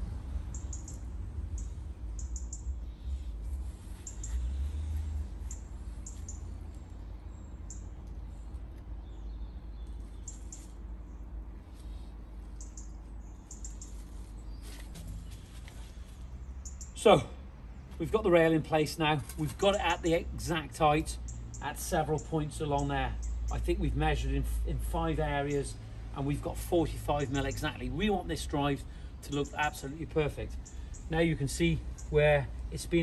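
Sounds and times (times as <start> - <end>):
small birds chirping: 0.0 - 18.8, 19.4 - 33.0
low background rumble: 0.0 - 33.0.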